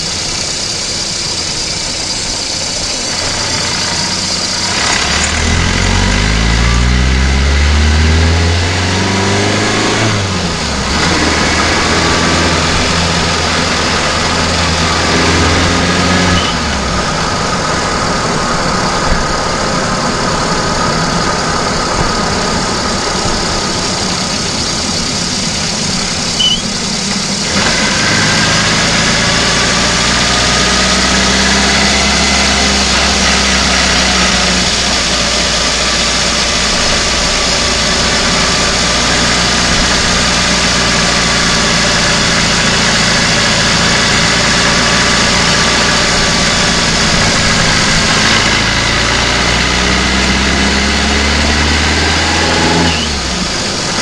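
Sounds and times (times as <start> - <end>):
car engine while driving: 0.0 - 54.0
road and wind noise: 0.0 - 54.0.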